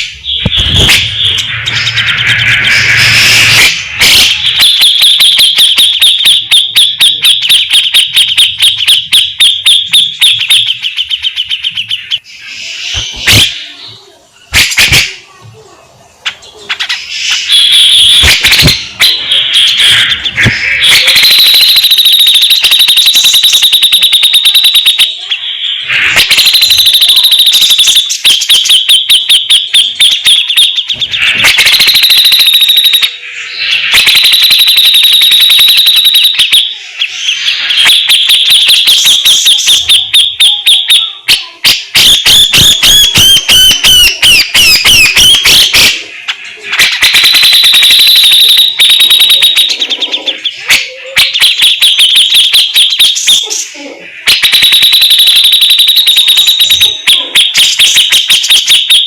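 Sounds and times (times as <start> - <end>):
bird harsh chattering calls: 0.0 - 15.4, 16.0 - 24.4, 25.1 - 34.3, 36.7 - 48.6, 49.4 - 52.2.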